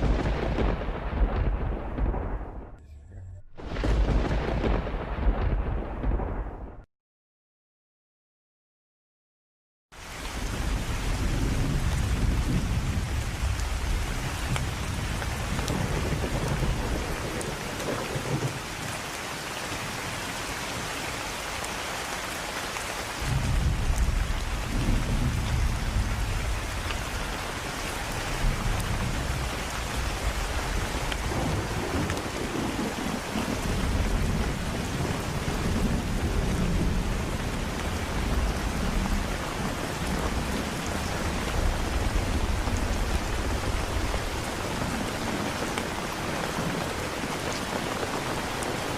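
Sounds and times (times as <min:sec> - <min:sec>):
steady rain: 0:00.0 - 0:02.6, 0:03.6 - 0:06.5, 0:09.9 - 0:48.9
thunder rumbling: 0:00.0 - 0:06.8, 0:10.3 - 0:21.0, 0:23.1 - 0:48.9.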